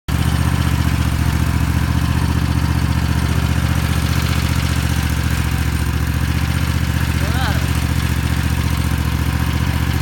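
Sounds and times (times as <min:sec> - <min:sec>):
tractor engine running: 0:00.1 - 0:10.0.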